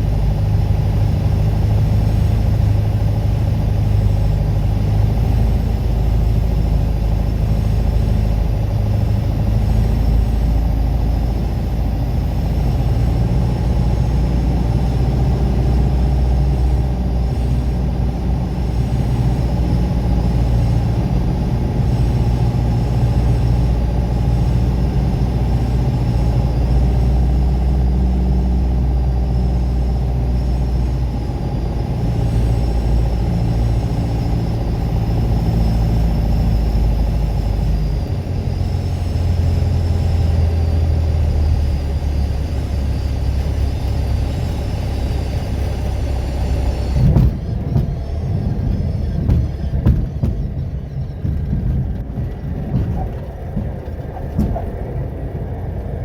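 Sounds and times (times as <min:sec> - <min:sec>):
aircraft piston engine running: 0:00.0 - 0:56.0.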